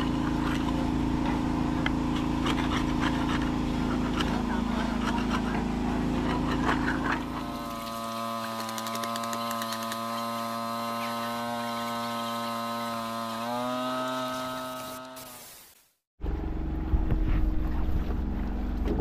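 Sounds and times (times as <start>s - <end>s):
motor running: 0.0s - 19.0s.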